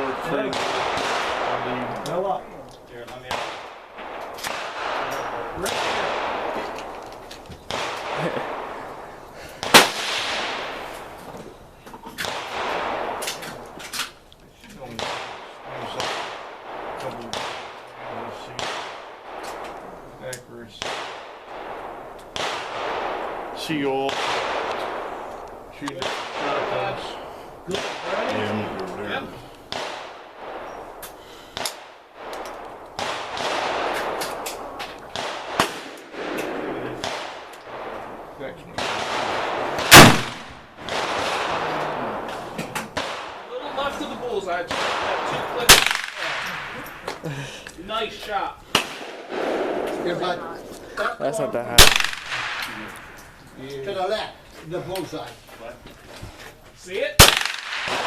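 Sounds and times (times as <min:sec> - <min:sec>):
gunshots with rolling echo: 0:00.0 - 0:14.2, 0:14.8 - 0:55.8, 0:56.9 - 0:58.0.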